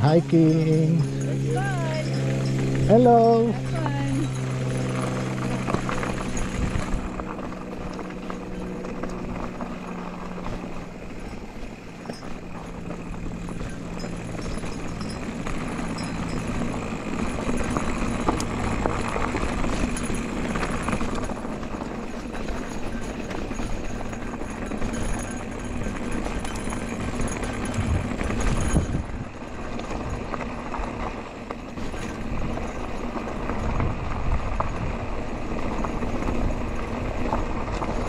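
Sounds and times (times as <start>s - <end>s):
bike rattling over bumps: 0.0s - 38.0s
bike tyres crunching over gravel: 0.4s - 38.0s.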